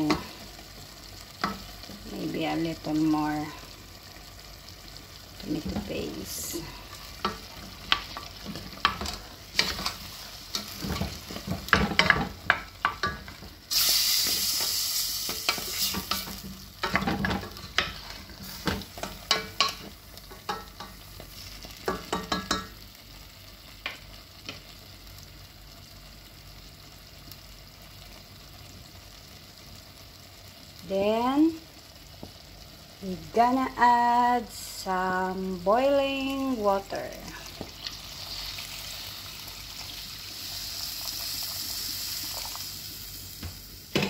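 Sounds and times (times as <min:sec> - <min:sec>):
food sizzling: 0:00.0 - 0:44.0.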